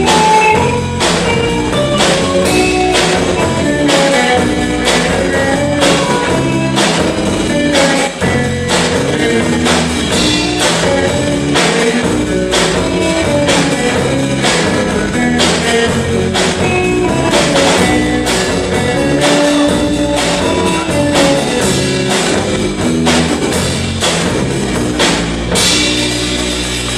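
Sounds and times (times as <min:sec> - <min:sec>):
rock band playing: 0:00.0 - 0:26.9.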